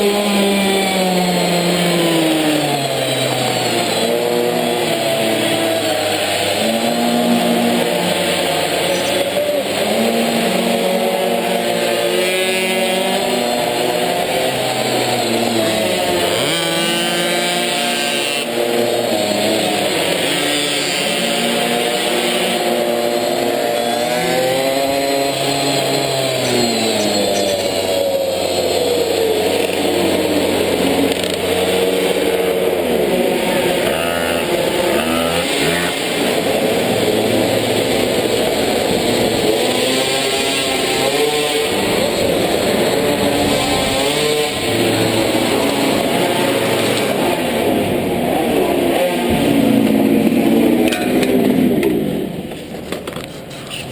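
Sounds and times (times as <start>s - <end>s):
two-stroke engine racing at high revs: 0.0s - 53.9s.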